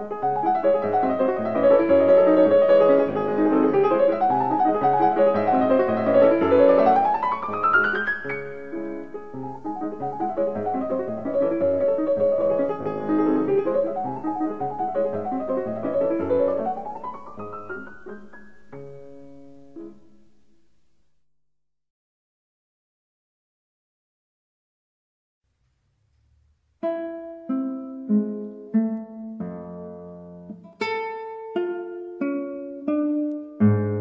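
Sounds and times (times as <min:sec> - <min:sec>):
piano music: 0:00.0 - 0:20.5, 0:26.9 - 0:34.0.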